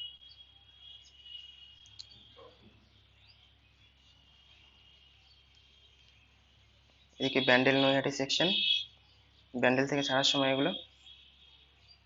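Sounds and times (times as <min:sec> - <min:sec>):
faint chirping: 0:00.0 - 0:12.0.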